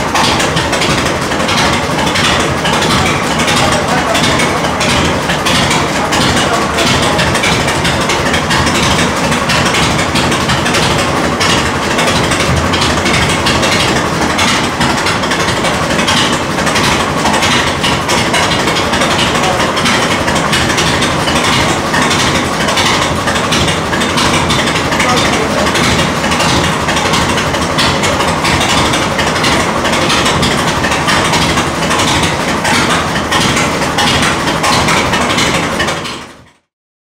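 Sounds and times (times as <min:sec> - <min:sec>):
tractor engine idling: 0:00.0 - 0:36.7.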